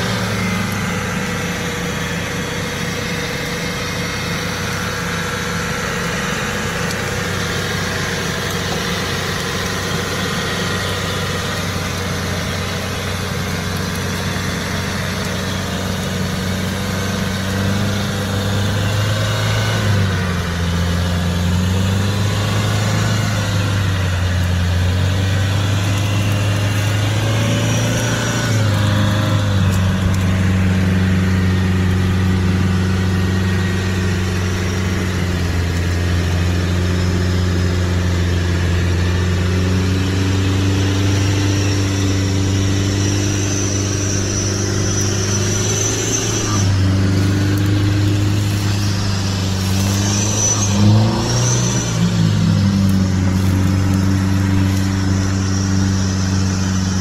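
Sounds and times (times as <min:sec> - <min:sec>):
engine revving under load: 0:00.0 - 0:57.0.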